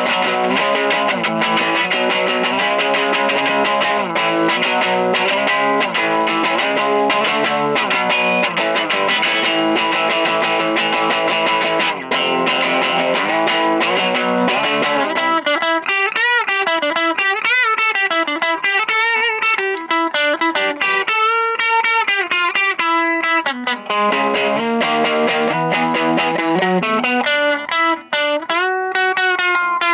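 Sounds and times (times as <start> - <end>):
distorted electric guitar: 0.0 - 29.9.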